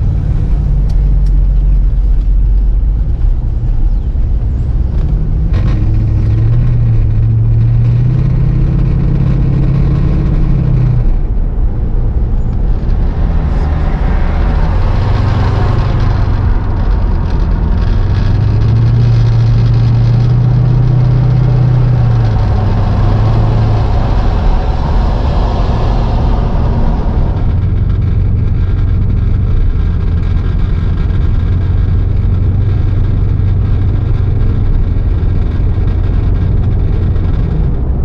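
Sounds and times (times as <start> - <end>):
car engine running: 0.0 - 38.0
road and wind noise: 0.0 - 38.0.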